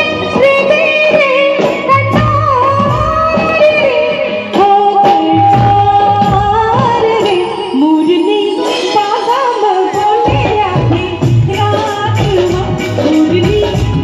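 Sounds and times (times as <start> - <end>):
band playing keyboards and drums: 0.0 - 14.0.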